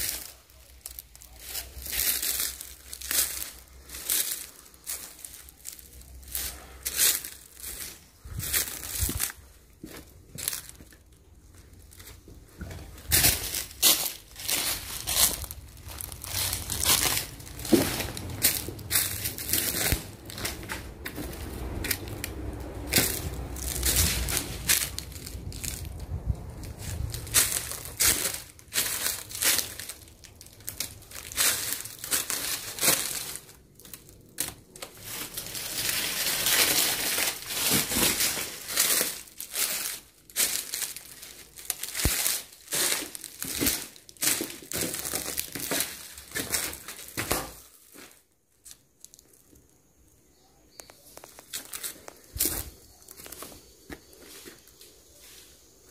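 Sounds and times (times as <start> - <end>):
footsteps crunching dry leaves: 0.0 - 49.4, 50.8 - 55.9.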